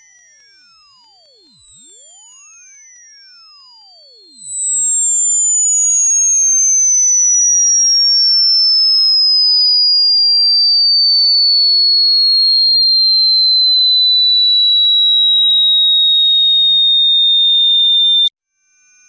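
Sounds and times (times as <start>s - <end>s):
electronic tone sliding down: 0.0s - 19.0s.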